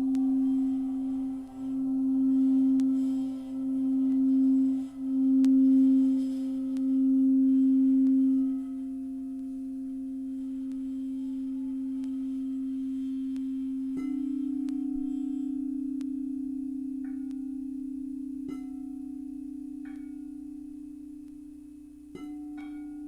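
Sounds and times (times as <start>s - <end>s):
higher singing bowl struck: 0.0s - 20.7s
singing bowl ringing low tone: 0.0s - 23.0s.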